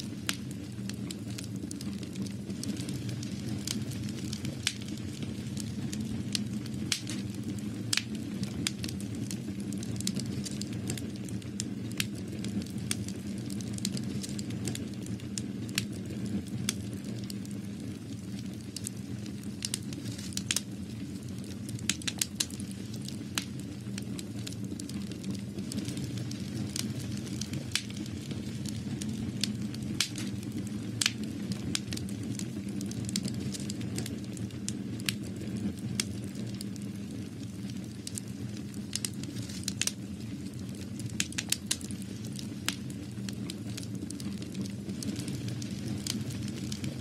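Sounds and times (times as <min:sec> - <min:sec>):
sharp crackles and clicks: 0:00.0 - 0:47.0.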